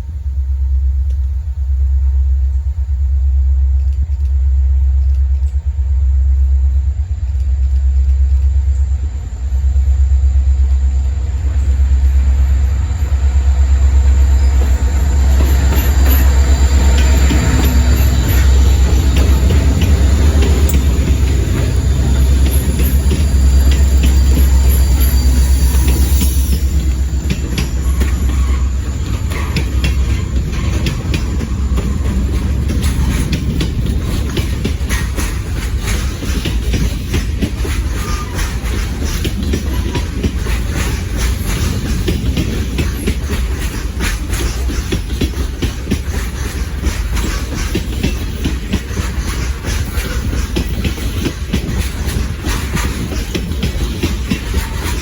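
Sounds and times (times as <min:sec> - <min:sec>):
train rumbling past: 0:00.0 - 0:55.0
wheels clicking over rails: 0:02.5 - 0:55.0.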